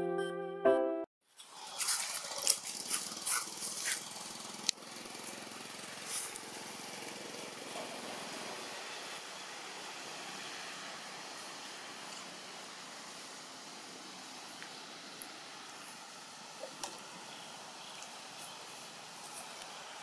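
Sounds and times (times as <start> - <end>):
outdoor background hiss: 2.2 - 20.0.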